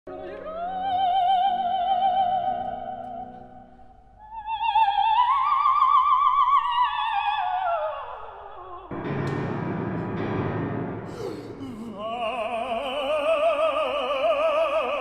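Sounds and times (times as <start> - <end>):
operatic soprano singing: 0.1 - 8.9, 11.1 - 15.0.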